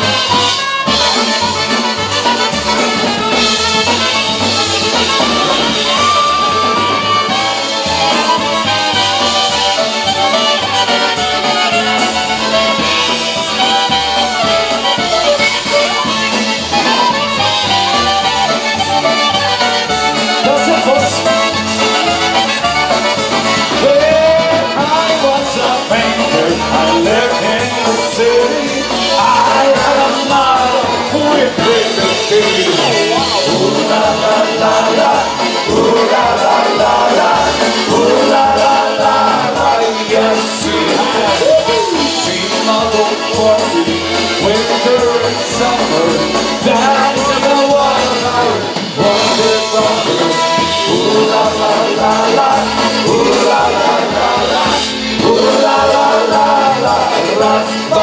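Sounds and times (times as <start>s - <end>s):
accordion: 0.0s - 58.0s
concertina: 0.0s - 58.0s
drums at a polka beat: 0.0s - 58.0s
saxophone: 0.0s - 58.0s
trumpet: 0.0s - 58.0s
voices singing along: 0.0s - 58.0s.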